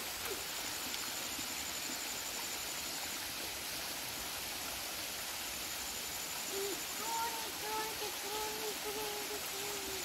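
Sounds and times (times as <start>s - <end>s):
stream flowing over rocks: 0.0s - 10.0s.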